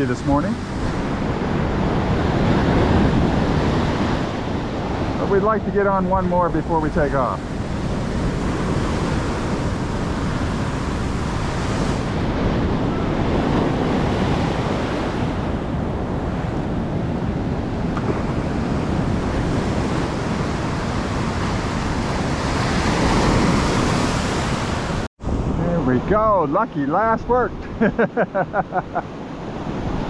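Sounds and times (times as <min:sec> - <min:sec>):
heavy surf breaking: 0:00.0 - 0:27.8
wind buffeting microphone: 0:00.0 - 0:27.8.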